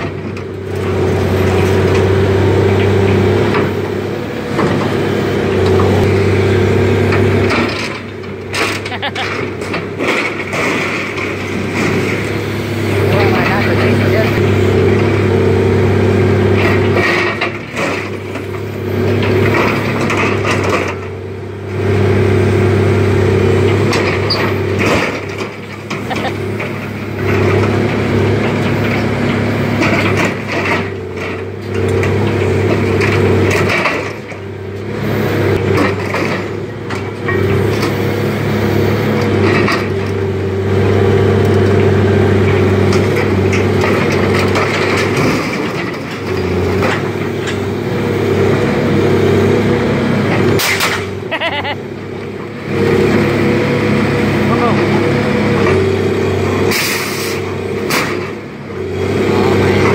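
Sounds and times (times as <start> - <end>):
metal crunching and clanking: 0.0 - 21.3, 22.8 - 38.1, 39.1 - 59.9
excavator diesel engine running: 0.0 - 59.9.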